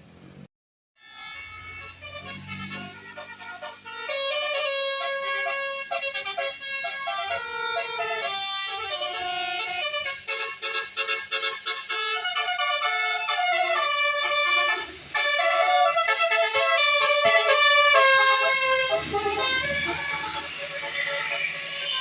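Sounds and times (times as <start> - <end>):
multi-tone bus air horn tune: 1.0 - 22.0.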